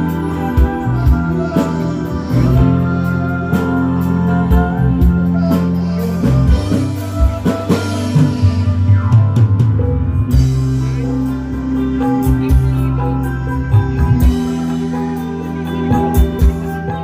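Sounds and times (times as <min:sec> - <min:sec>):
loud band music through speakers: 0:00.0 - 0:17.0.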